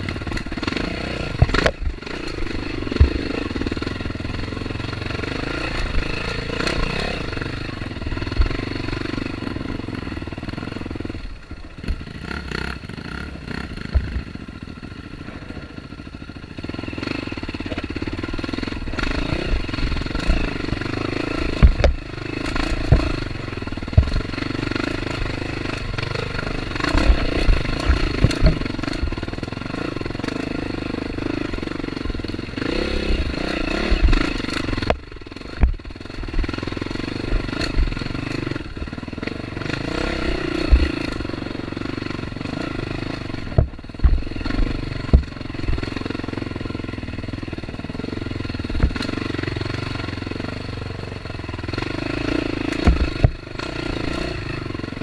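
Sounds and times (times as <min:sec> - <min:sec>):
dirt bike engine revving: 0:00.0 - 0:55.0
knocks and clatter from bike: 0:00.0 - 0:55.0.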